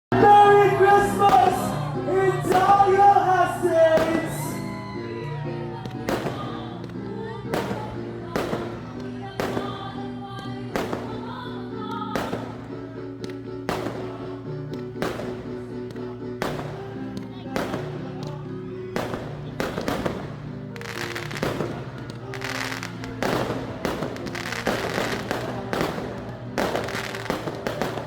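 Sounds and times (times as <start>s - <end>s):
fireworks banging: 0.1s - 5.0s, 5.8s - 28.0s
song with singing voice: 0.1s - 28.0s.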